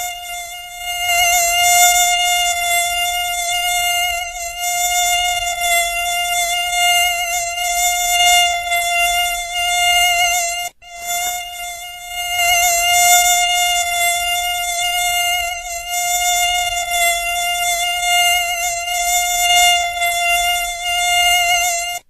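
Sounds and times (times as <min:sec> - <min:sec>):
mosquito wingbeat whine: 0:00.0 - 0:22.0.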